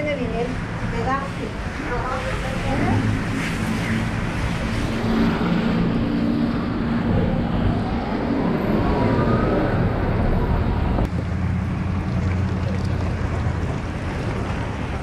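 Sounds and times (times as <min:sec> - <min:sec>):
cars passing on wet road: 0:00.0 - 0:15.0
steady engine hum: 0:00.0 - 0:15.0.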